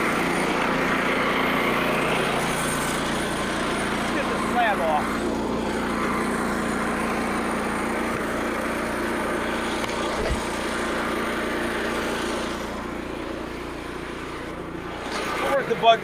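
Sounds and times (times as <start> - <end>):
band sawmill engine running: 0.0 - 16.0.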